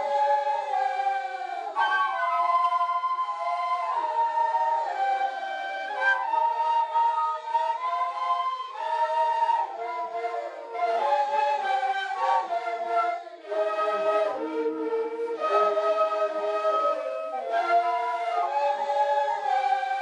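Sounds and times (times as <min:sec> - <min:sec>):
group of flutes playing melody: 0:00.0 - 0:20.0.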